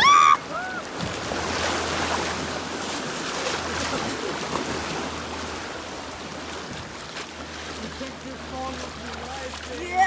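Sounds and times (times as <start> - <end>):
river rapids churning and splashing: 0.0 - 10.0.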